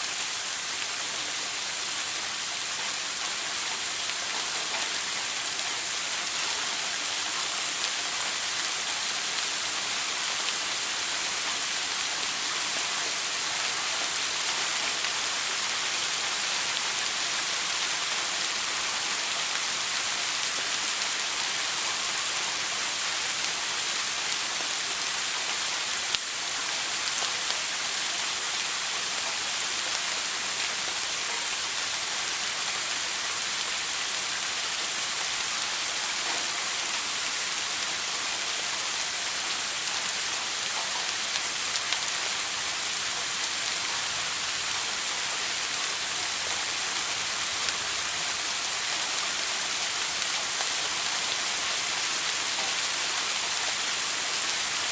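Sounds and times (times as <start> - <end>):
shower water spraying: 0.0 - 54.9.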